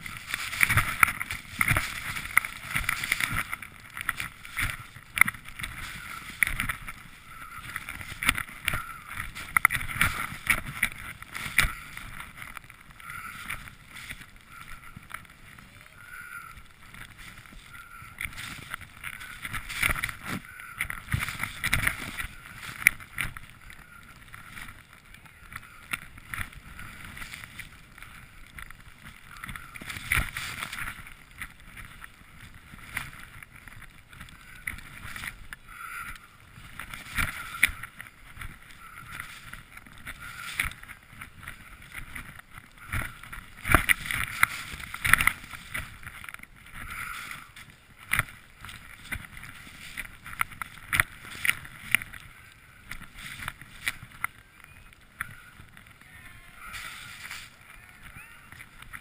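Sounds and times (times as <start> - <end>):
skis swishing through powder snow: 0.0 - 59.0.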